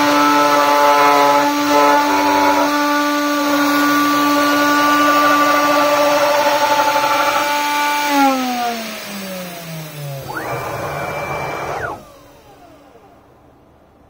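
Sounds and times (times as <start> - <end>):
gantry drive motors whining: 0.0 - 14.0
router spindle motor whining: 0.0 - 14.0.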